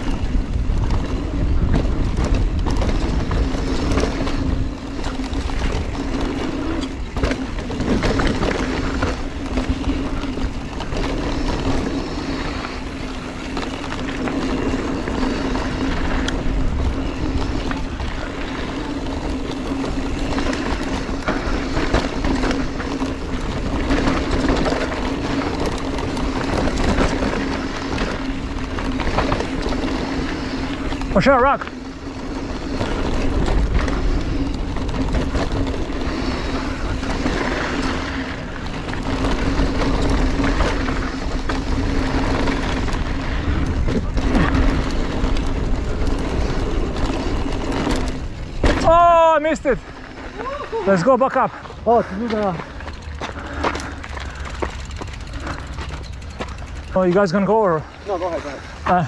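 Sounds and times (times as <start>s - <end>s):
wind rushing over microphone: 0.0s - 51.0s
bike knocks and rattles: 0.0s - 59.0s
tyres rumbling over dirt: 0.0s - 59.0s.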